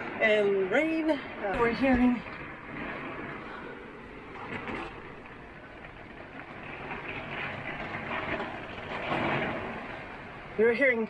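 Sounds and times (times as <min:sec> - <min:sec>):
heavy wind and rain roar: 0:00.0 - 0:11.0.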